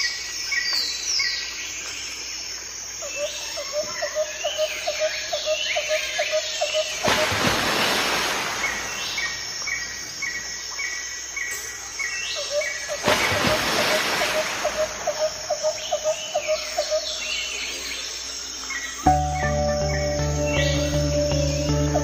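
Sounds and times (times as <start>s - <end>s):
birds chirping: 3.1s - 22.0s.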